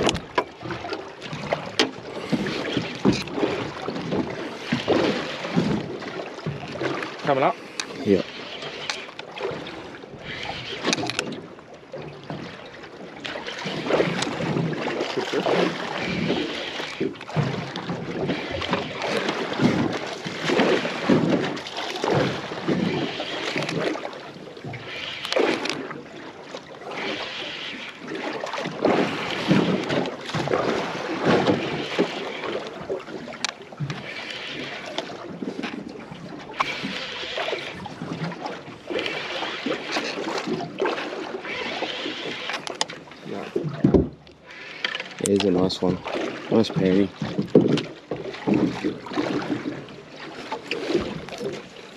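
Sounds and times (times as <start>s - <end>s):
water lapping against boat hull: 0.0s - 51.9s.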